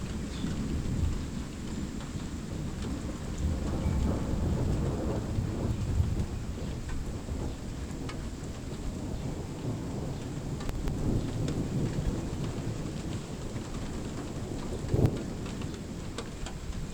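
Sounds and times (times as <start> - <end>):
faint raindrop ticks: 0.0 - 16.9
rain falling: 0.0 - 16.9
thunder rumbling: 0.0 - 16.9.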